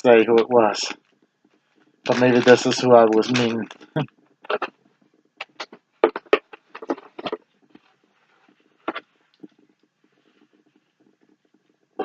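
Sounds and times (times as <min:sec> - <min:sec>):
faint rustle: 0:01.0 - 0:12.0.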